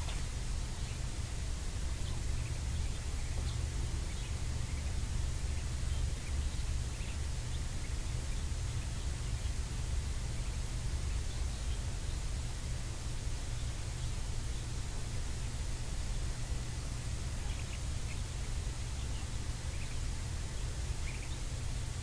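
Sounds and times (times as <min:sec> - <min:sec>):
ducklings peeping: 0:00.0 - 0:22.0
low rumble and hiss: 0:00.0 - 0:22.0.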